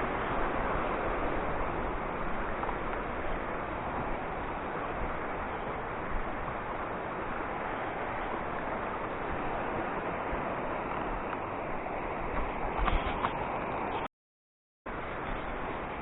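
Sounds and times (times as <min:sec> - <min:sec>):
steady rushing noise outdoors: 0:00.0 - 0:14.1, 0:14.9 - 0:16.0.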